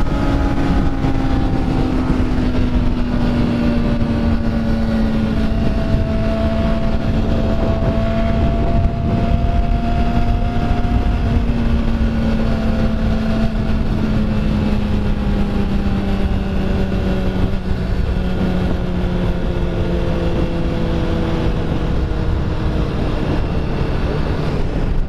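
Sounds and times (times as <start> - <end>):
motorcycle engine running: 0.0 - 25.0
wind rumble on microphone: 0.0 - 25.0.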